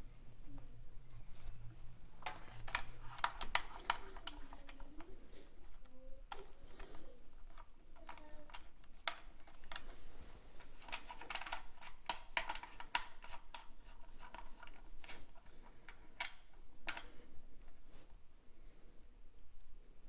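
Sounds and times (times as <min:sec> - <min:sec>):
hands clicking and scraping terminals: 0:00.0 - 0:18.2.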